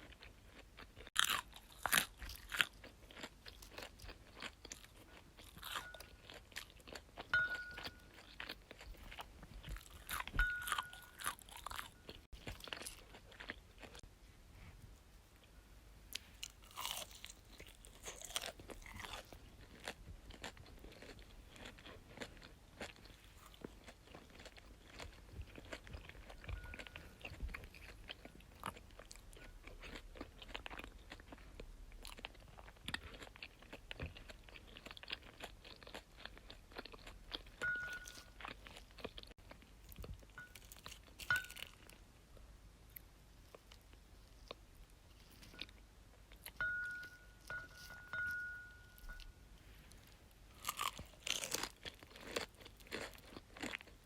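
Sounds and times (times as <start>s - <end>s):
person chewing crunchy food: 0.0s - 14.1s, 16.1s - 42.1s, 42.9s - 54.0s.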